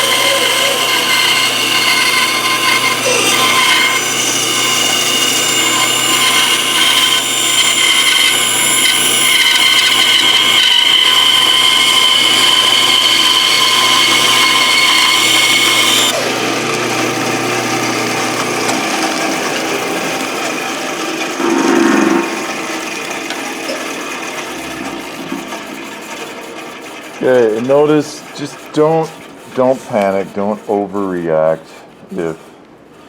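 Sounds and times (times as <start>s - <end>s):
bandsaw cutting wood: 0.0s - 33.0s.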